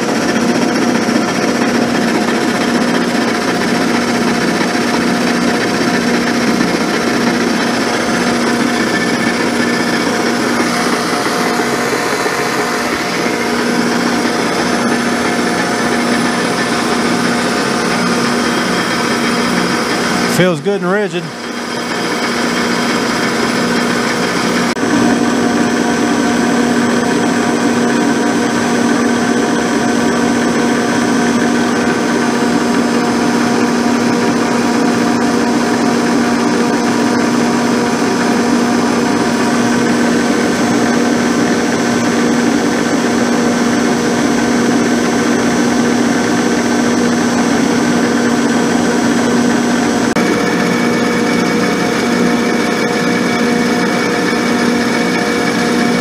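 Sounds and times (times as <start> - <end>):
milling machine drone: 0.0 - 56.0.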